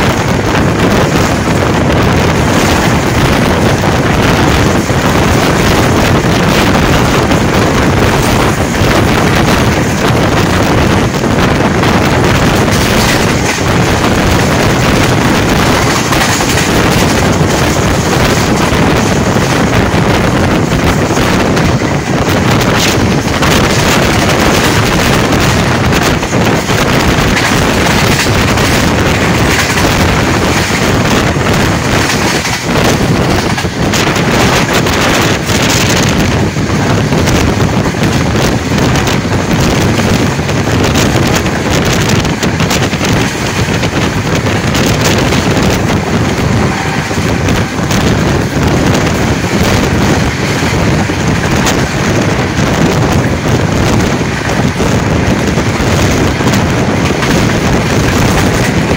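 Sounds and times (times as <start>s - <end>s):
train running rumble: 0.0s - 58.9s
wind rushing over microphone: 0.0s - 58.9s.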